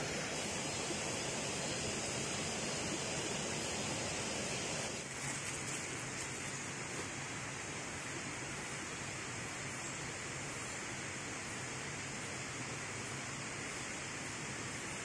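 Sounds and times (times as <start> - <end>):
stream water flowing: 0.0 - 14.6.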